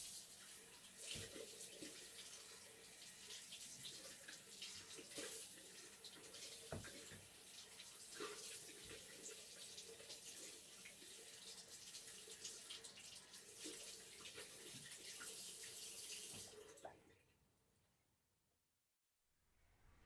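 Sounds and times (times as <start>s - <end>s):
tap water running into sink: 0.0s - 16.8s.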